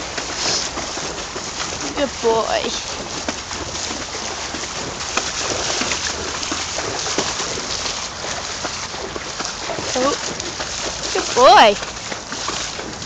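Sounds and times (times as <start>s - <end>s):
pony wading through water: 0.0s - 13.0s.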